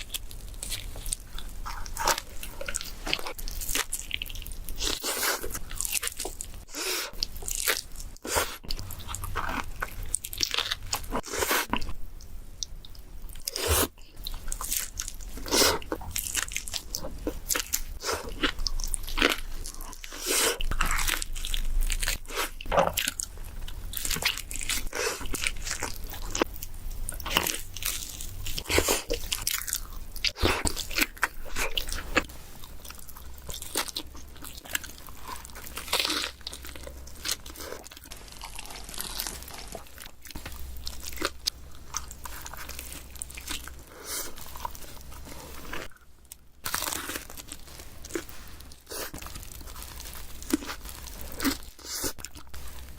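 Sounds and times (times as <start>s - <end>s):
chewing and mouth noises: 0.0s - 52.9s.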